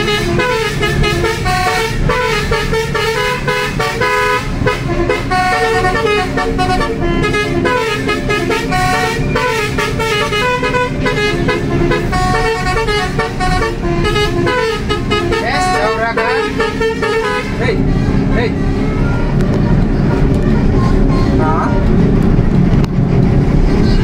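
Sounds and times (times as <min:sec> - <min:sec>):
musical bus horn melody: 0:00.0 - 0:22.2
bus rumbling on road: 0:00.0 - 0:24.0.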